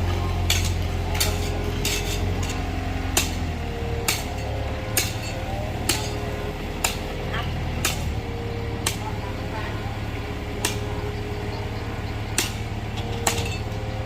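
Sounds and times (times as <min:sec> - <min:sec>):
bulldozer diesel engine hum: 0:00.0 - 0:14.0
metallic track clanks: 0:00.0 - 0:14.0.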